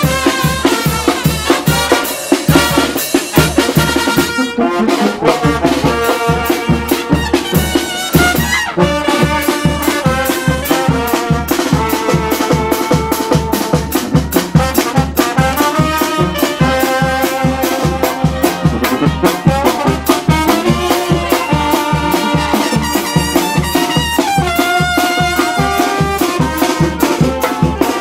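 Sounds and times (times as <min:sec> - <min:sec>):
brass band playing dance tune: 0:00.0 - 0:28.0
driving drum beat: 0:00.0 - 0:28.0.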